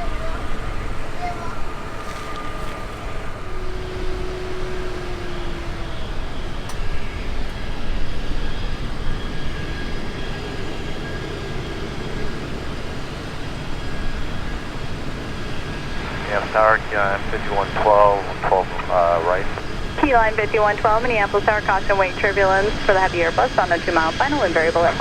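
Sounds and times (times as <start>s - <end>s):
faint jet engine whine: 0.0s - 25.0s
jet engines rumbling: 0.0s - 25.0s.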